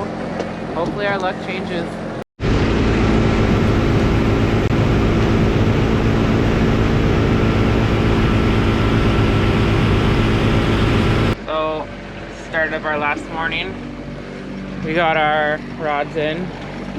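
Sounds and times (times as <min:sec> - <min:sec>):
boat engine running: 0:00.0 - 0:16.9.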